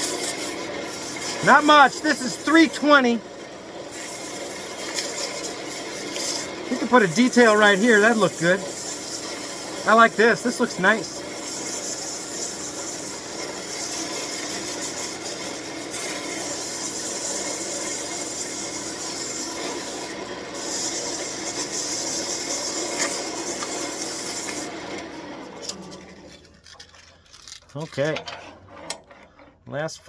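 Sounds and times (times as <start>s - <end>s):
sandpaper hissing on spinning wood: 0.0s - 25.0s.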